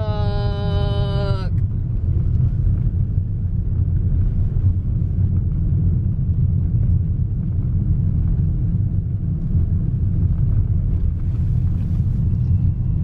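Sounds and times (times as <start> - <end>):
road and engine noise: 0.0 - 13.0
wind buffeting car: 0.0 - 13.0.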